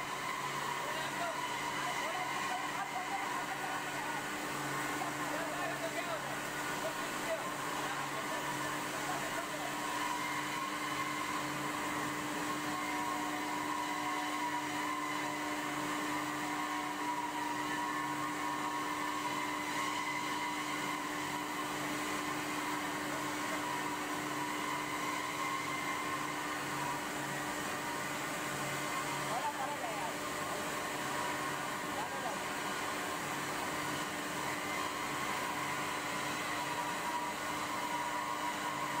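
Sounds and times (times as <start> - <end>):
machine whir and hum: 0.0 - 39.0.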